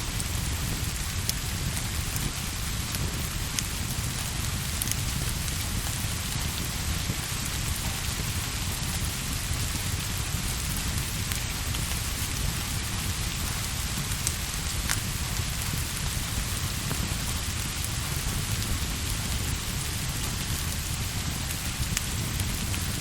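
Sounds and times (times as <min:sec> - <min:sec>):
continuous low rumble: 0:00.0 - 0:23.0
steady rain falling: 0:00.0 - 0:23.0.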